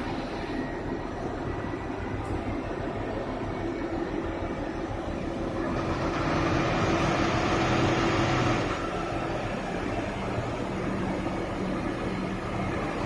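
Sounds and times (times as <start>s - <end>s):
crane machinery droning: 0.0s - 13.0s.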